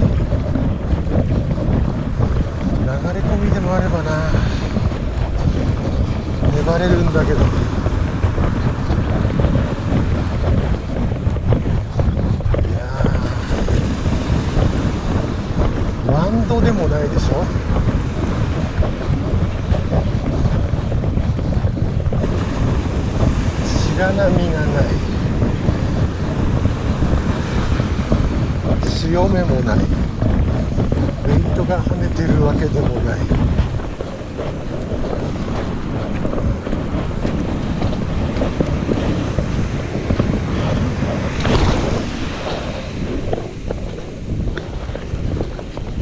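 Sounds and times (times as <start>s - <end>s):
surf washing on beach: 0.0s - 46.0s
wind buffeting microphone: 0.0s - 46.0s.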